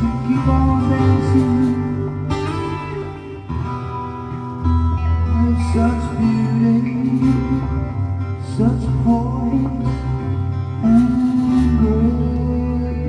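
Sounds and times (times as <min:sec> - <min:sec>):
guitar: 0:00.0 - 0:13.0
sustained bass notes: 0:00.0 - 0:13.0.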